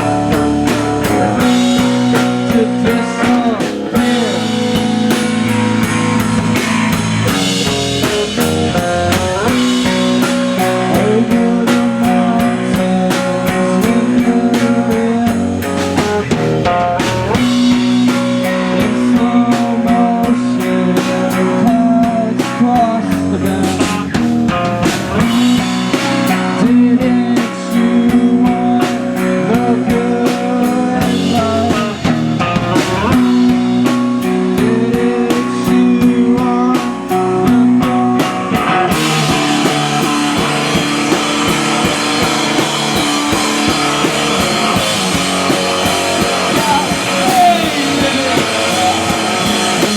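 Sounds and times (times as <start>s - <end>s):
drum kit: 0.0s - 49.9s
electric guitars: 0.0s - 49.9s.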